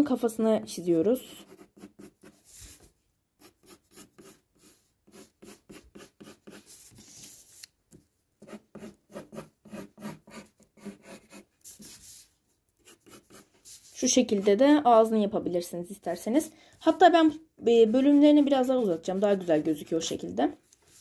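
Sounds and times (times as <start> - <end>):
pencil scratching on paper: 1.2 - 7.6, 8.4 - 15.0, 16.8 - 21.0.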